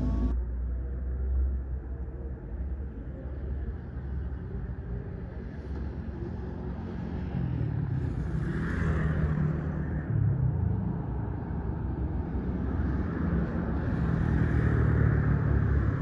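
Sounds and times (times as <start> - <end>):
street noise: 0.0 - 16.0
vehicle engine rumbling: 0.0 - 16.0.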